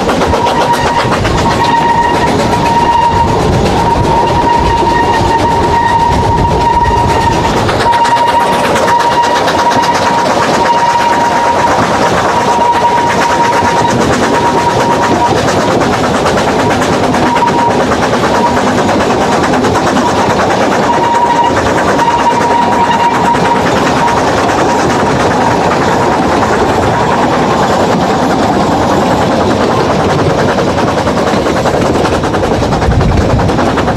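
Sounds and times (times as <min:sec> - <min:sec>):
train coaches rumbling over rails: 0:00.0 - 0:33.9.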